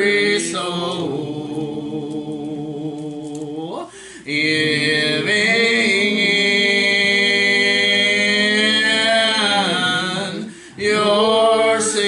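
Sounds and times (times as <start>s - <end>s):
gospel singing: 0.0s - 12.0s.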